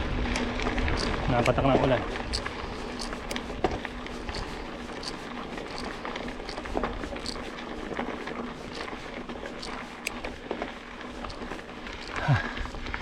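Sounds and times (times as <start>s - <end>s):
bike tyres on wet trail: 0.0s - 13.0s
small clicks and rattles: 0.3s - 13.0s.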